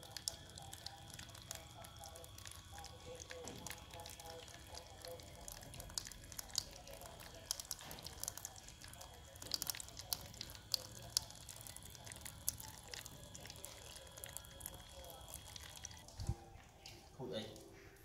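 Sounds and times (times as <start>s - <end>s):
fountain water trickling and splashing: 0.0s - 16.3s.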